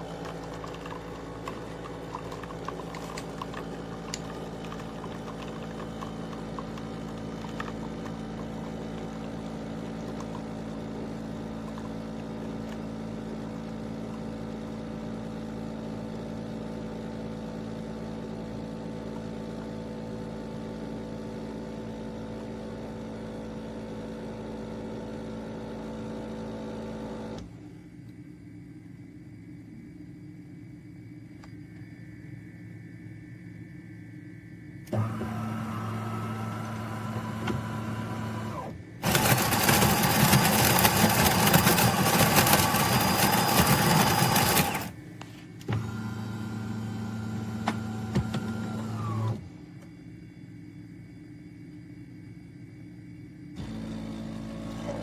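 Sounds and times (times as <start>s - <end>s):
espresso machine humming: 0.0s - 27.5s, 33.7s - 49.3s, 53.6s - 55.0s.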